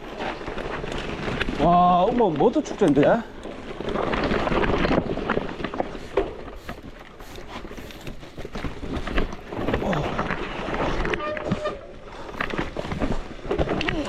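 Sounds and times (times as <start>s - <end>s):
bike knocks and rattles: 0.0s - 14.0s.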